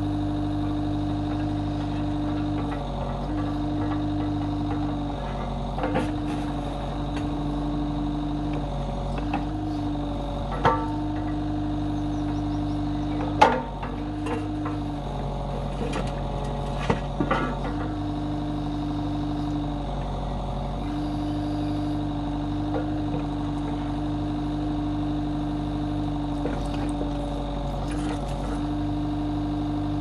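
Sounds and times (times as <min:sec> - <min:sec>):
backhoe digging soil: 0:00.0 - 0:30.0
diesel engine running under load: 0:00.0 - 0:30.0
hydraulic hum: 0:00.0 - 0:30.0.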